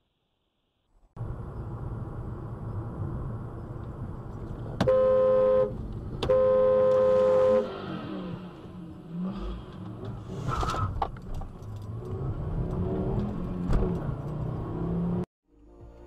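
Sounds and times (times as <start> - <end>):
road noise: 1.1 - 15.3.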